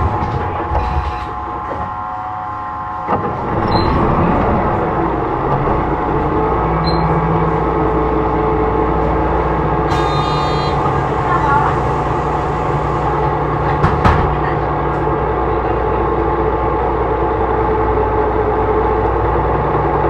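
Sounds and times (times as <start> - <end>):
bus engine droning with whine: 0.0 - 20.0.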